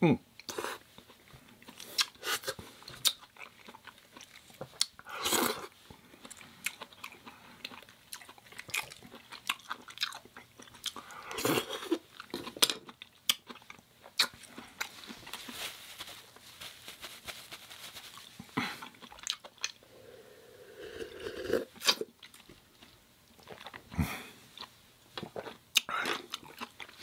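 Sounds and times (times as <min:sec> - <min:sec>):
person chewing and crunching food: 0:00.4 - 0:19.9, 0:20.9 - 0:27.0.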